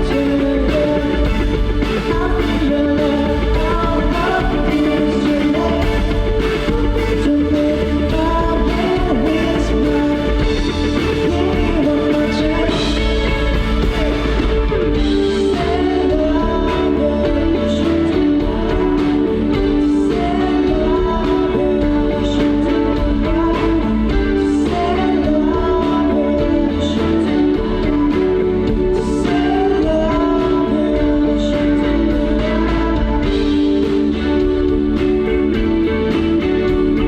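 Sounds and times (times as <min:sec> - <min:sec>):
live pop-rock band playing: 0:00.0 - 0:37.0
person singing: 0:00.0 - 0:37.0.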